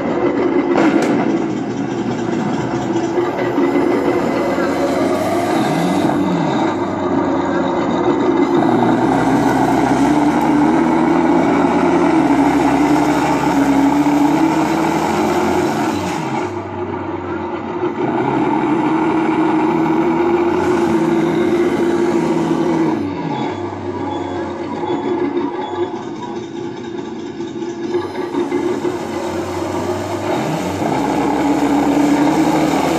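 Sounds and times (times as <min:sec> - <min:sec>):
simulated tank engine revving: 0:00.0 - 0:32.9.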